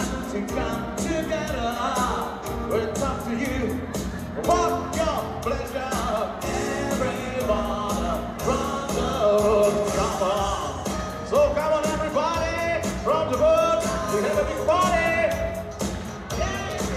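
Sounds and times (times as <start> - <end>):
song with singing over a beat: 0.0 - 16.9.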